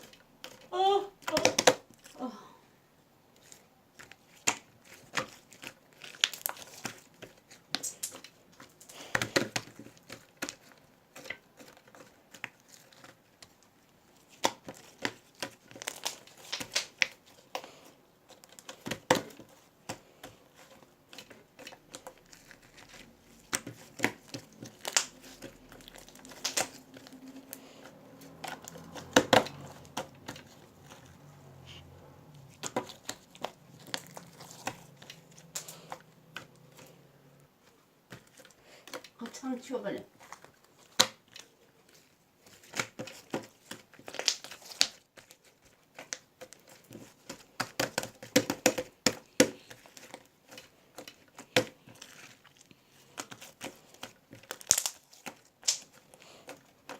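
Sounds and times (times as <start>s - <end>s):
crinkling and rustling handling noise: 0.0s - 56.9s.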